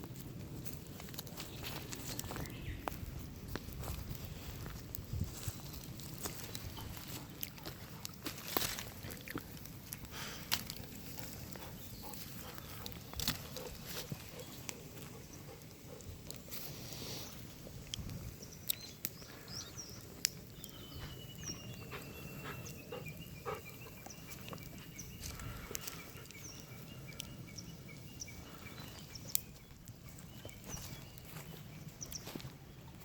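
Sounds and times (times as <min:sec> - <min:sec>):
wood fire crackling: 0:00.0 - 0:33.0
small birds chirping: 0:00.9 - 0:33.0.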